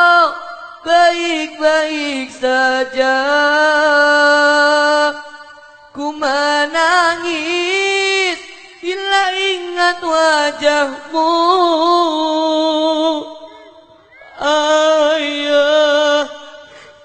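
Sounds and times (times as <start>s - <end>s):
slow mournful song: 0.0s - 17.0s.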